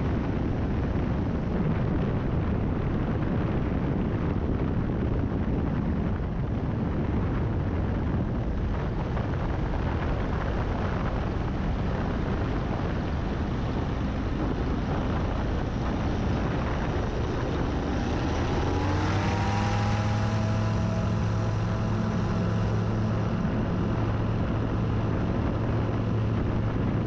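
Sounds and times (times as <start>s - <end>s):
plane engine and propeller: 0.0s - 27.0s
wind rushing over microphone: 0.0s - 27.0s.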